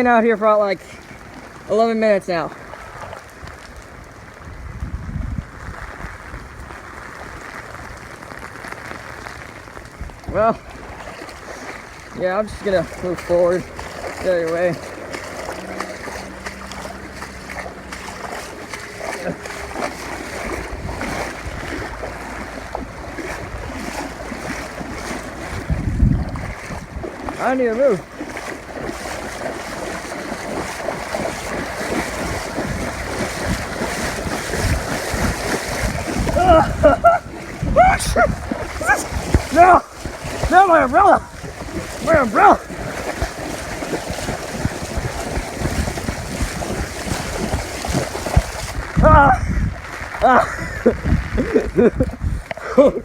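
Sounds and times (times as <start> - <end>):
wading through water: 0.0 - 53.0
heavy rain: 2.5 - 52.0
wind on microphone: 2.6 - 53.0.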